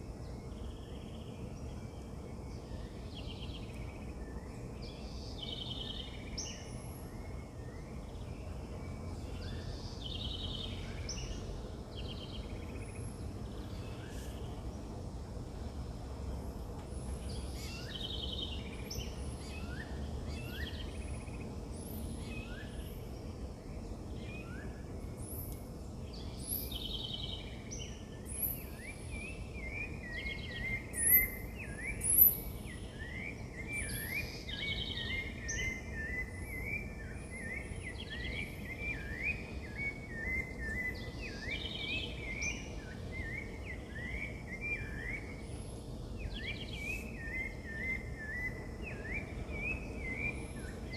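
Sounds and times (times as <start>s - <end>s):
low background noise: 0.0s - 50.9s
wild birds singing: 0.0s - 50.9s.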